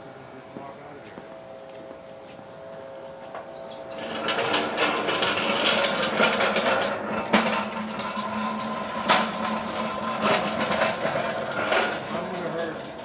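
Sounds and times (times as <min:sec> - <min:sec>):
pallet jack wheels rumbling on asphalt: 0:02.4 - 0:13.0.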